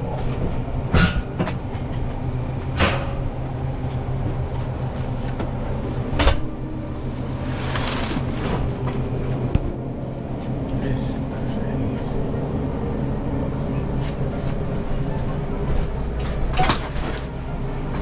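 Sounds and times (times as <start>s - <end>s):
wheels rumbling under load: 0.0s - 18.0s.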